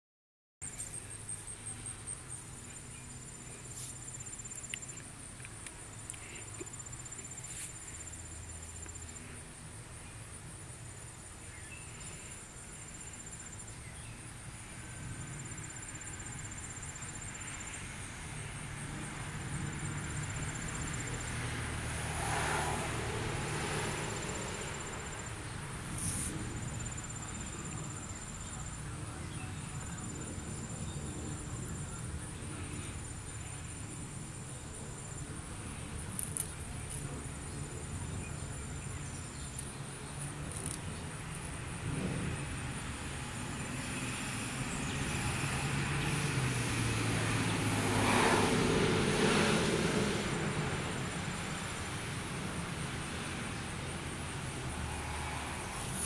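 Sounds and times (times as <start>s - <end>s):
insects trilling high: 0.8s - 56.0s.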